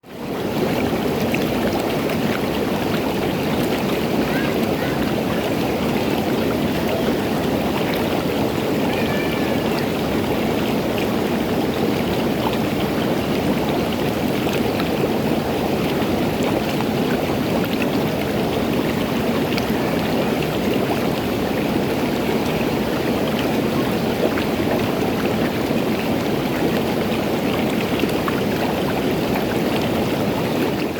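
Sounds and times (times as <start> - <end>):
water bubbling in a pool: 0.0 - 30.9.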